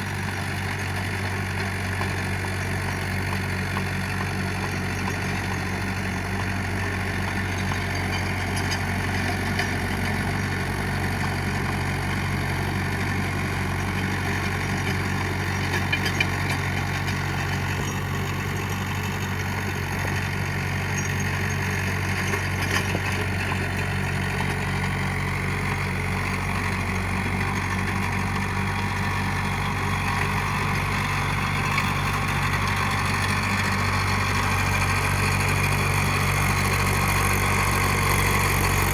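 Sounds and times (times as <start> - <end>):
tractor diesel engine idling: 0.0 - 38.9.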